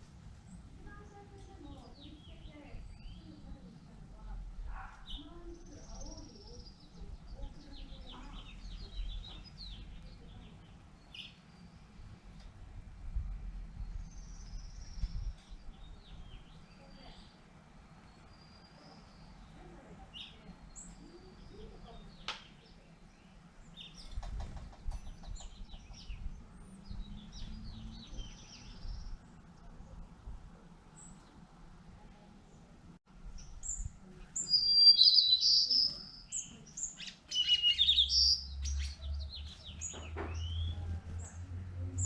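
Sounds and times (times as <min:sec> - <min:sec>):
small birds chirping: 0:00.3 - 0:42.0.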